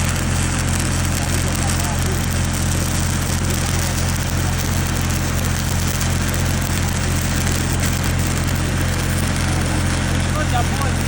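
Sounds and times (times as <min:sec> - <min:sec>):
welding arc crackling: 0:00.0 - 0:11.0
welding machine hum: 0:00.0 - 0:11.0.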